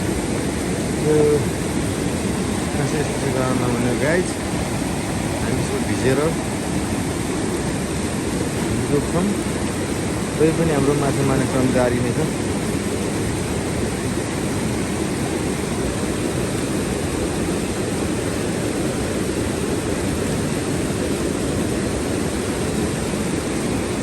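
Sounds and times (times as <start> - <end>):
fast-running river water: 0.0 - 24.0.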